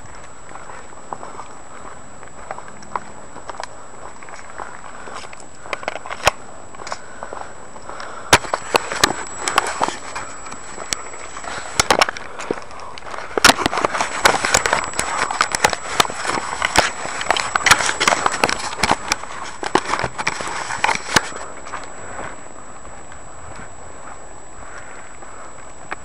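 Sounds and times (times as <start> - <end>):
footsteps on gravel trail: 0.0 - 26.0
steady hiss: 0.0 - 26.0.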